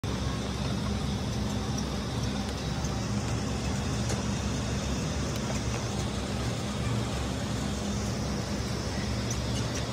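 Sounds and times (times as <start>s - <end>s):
workshop machinery droning: 0.0s - 9.9s.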